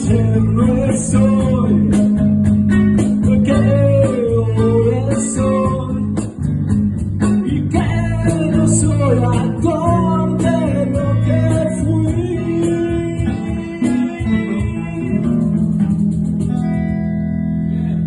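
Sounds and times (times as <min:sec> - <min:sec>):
band music with guitars and drums: 0:00.0 - 0:18.0.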